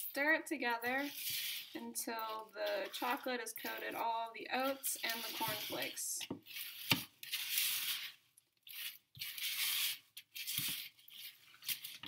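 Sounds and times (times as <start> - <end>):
spoon stirring thick mixture: 0.0 - 12.0.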